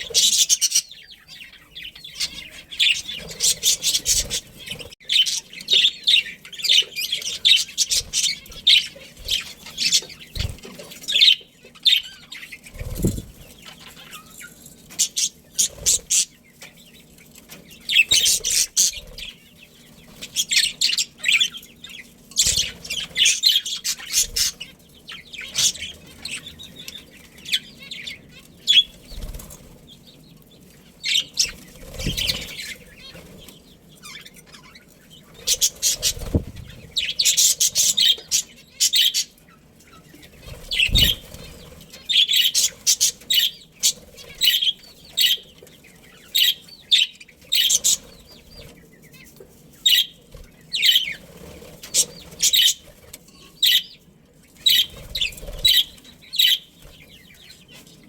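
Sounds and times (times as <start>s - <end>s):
budgerigars chattering: 0.0s - 16.8s, 17.7s - 30.0s, 31.0s - 53.0s, 53.6s - 54.0s, 54.6s - 57.8s.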